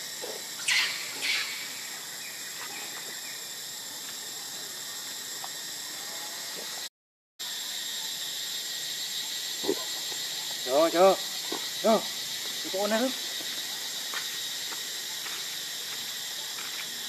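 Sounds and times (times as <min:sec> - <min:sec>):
insect hiss: 0:00.0 - 0:17.0.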